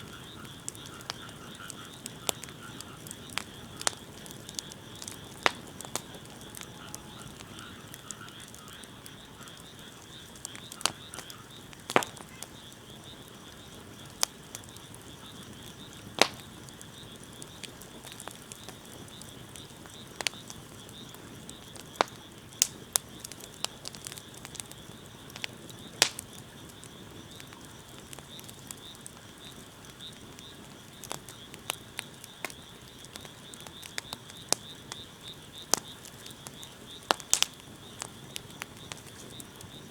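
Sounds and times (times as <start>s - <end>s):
wood fire popping: 0.0s - 39.9s.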